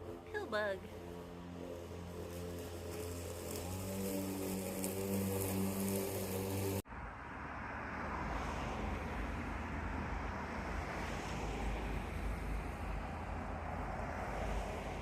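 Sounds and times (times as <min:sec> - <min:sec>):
outdoor rumble: 0:00.0 - 0:15.0.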